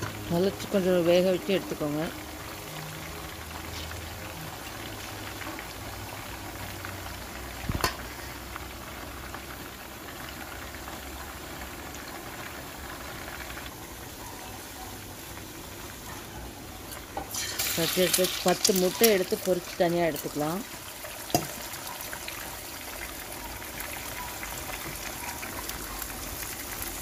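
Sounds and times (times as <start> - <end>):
chicken frying in hot oil: 0.0 - 27.0.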